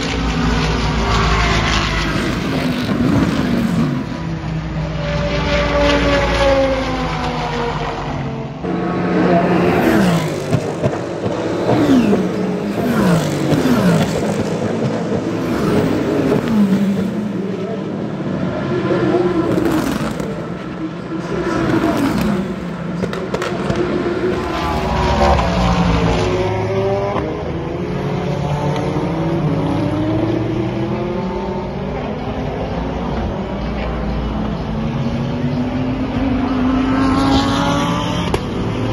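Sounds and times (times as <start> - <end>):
race cars passing at speed: 0.0 - 38.9.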